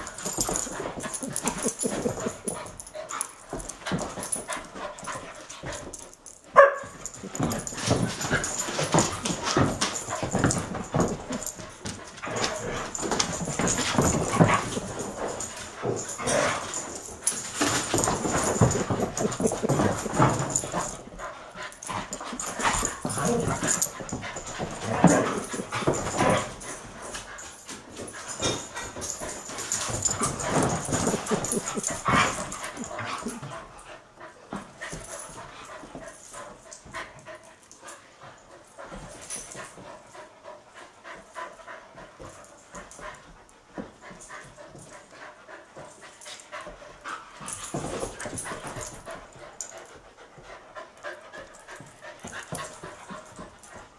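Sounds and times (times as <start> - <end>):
dogs play-wrestling: 0.0 - 53.9.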